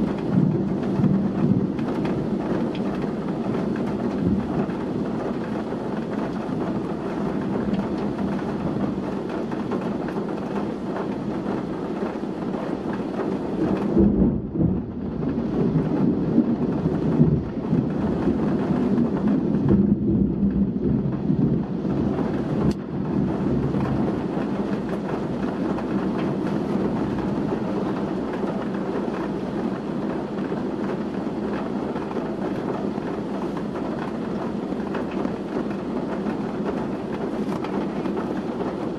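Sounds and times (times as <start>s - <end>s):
heavy rain pouring: 0.0s - 38.9s
wind gusts: 0.0s - 38.9s.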